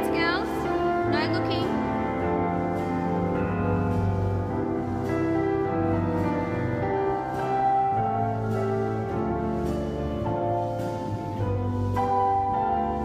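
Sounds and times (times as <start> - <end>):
instrumental piano music: 0.0 - 13.0.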